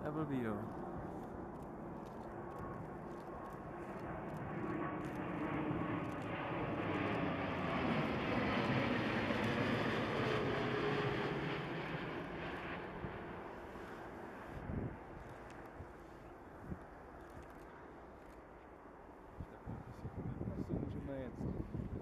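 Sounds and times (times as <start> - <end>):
jet plane flying overhead: 0.0 - 22.0.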